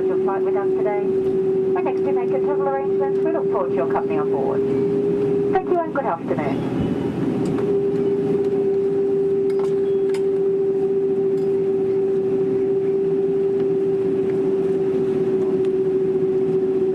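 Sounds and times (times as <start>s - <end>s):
steady mid-pitched tone: 0.0s - 14.6s
aircraft cabin noise: 0.0s - 16.9s.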